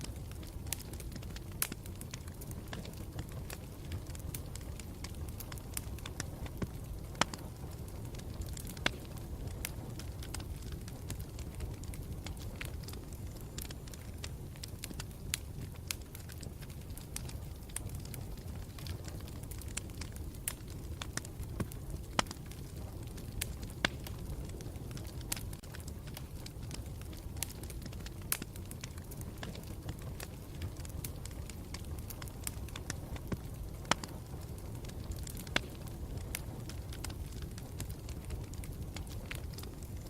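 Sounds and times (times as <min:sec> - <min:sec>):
campfire rumbling: 0:00.0 - 0:40.0
fire crackling: 0:00.0 - 0:40.0
fire popping: 0:00.0 - 0:40.0.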